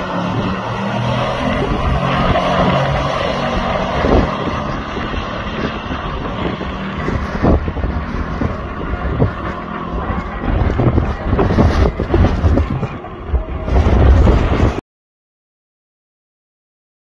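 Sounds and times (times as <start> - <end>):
pickup truck engines racing: 0.0 - 14.8
wind buffeting microphone: 0.0 - 14.8.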